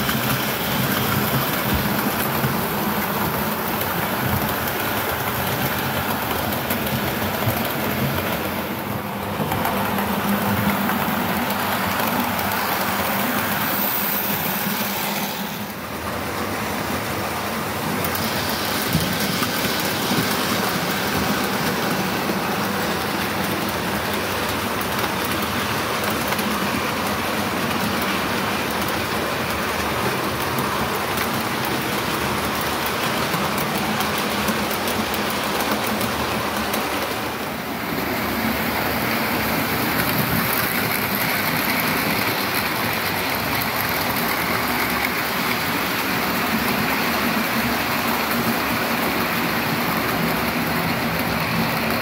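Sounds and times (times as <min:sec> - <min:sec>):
model train wheels rumbling: 0:00.0 - 0:52.0.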